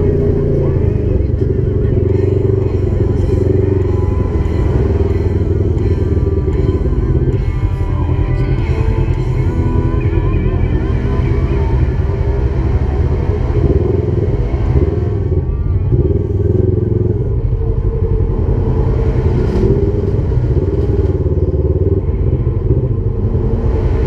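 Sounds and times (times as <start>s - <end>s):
utility vehicle engine revving: 0.0s - 24.0s.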